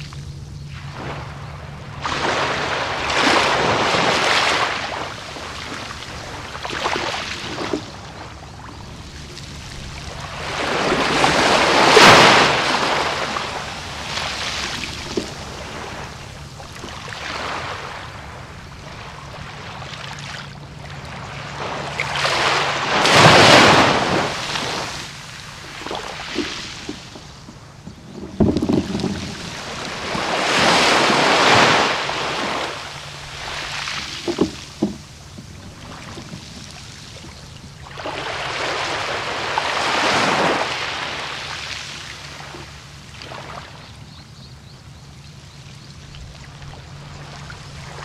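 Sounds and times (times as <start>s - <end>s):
sea waves breaking on beach: 0.0s - 43.9s, 45.9s - 48.0s.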